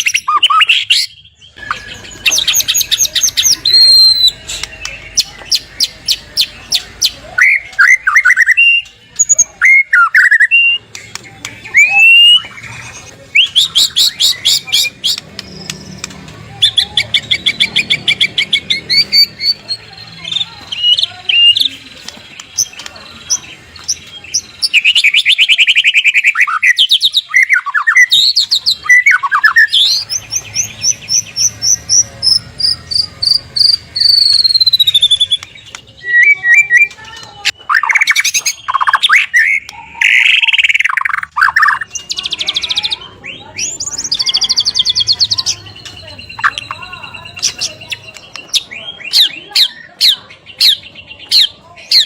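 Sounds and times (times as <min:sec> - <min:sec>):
bird singing trills and whistles: 0:00.0 - 0:52.0.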